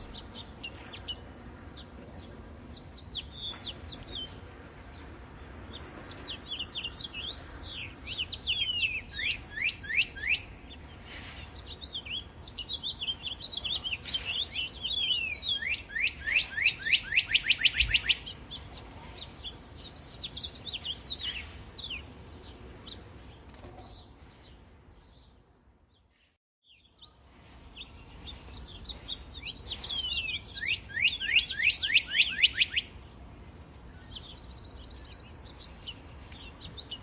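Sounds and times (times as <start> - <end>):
songbirds chirping and singing: 0.0 - 37.0.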